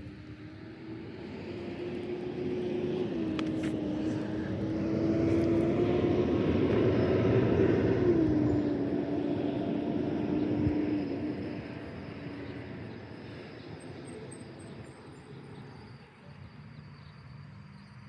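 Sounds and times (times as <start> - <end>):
propeller airplane passing over: 0.0 - 18.0.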